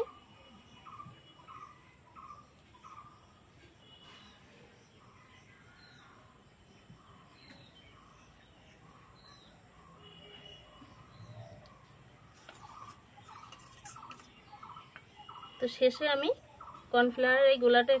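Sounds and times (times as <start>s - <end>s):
bird chirps: 0.0s - 17.0s.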